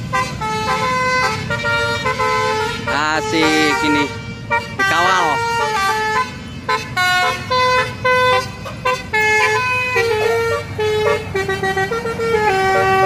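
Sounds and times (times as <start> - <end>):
bus horn playing a tune: 0.0 - 13.0
low engine rumble: 0.0 - 13.0.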